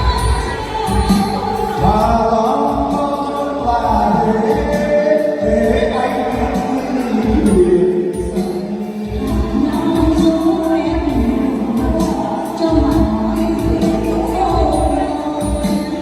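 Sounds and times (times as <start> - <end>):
pop ballad with low beat: 0.0 - 16.0.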